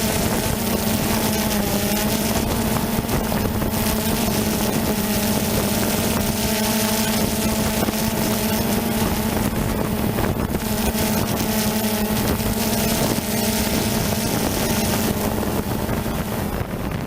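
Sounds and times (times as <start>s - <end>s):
motor-like drone: 0.0s - 17.0s.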